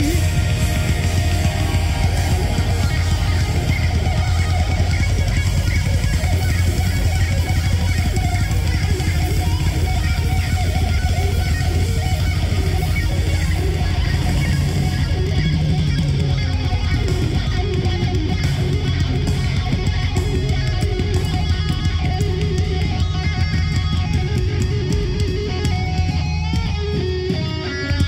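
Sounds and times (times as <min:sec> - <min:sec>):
metal band playing: 0:00.0 - 0:28.0.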